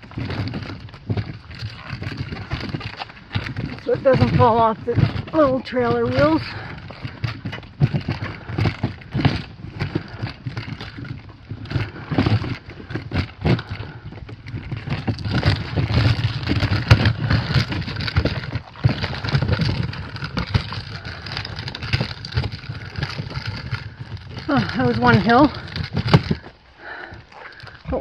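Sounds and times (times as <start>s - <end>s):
cart wheels clattering over stones: 0.0s - 28.0s
continuous low rumble: 0.0s - 28.0s.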